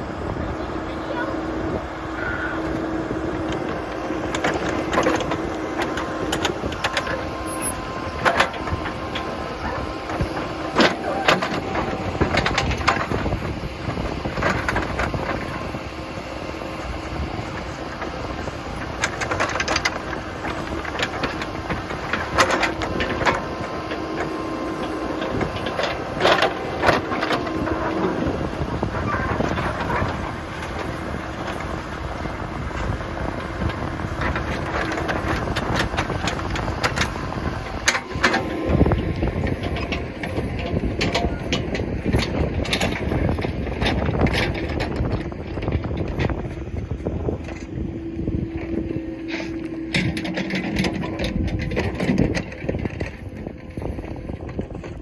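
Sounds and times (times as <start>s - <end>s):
backhoe engine hum: 0.0s - 55.0s.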